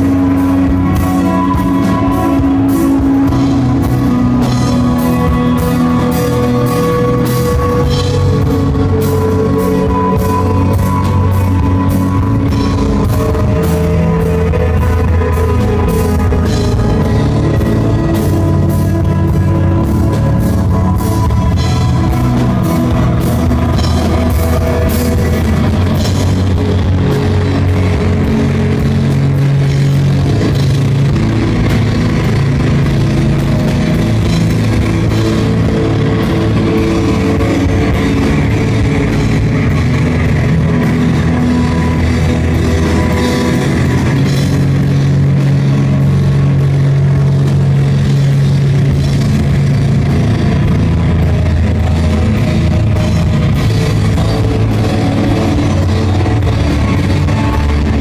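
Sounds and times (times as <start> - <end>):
bass guitar: 0.0 - 58.0
drum kit with cymbals: 0.0 - 58.0
electric guitar: 0.0 - 58.0
keyboards: 0.0 - 58.0.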